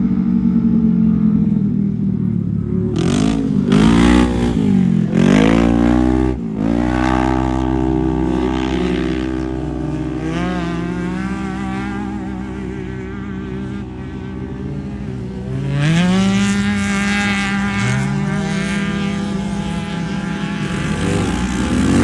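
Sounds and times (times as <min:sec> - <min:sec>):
race vehicle engine revving: 0:02.9 - 0:22.0.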